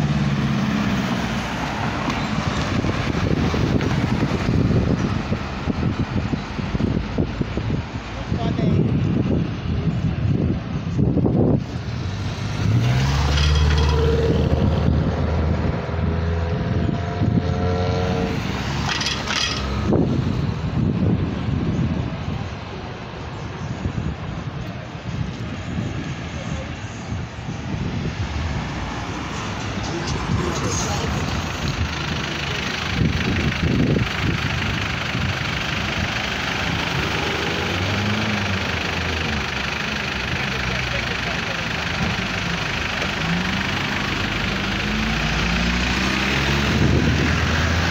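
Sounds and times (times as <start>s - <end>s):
vehicle engines idling: 0.0s - 17.4s, 18.1s - 47.9s
cars driving past: 0.0s - 47.9s.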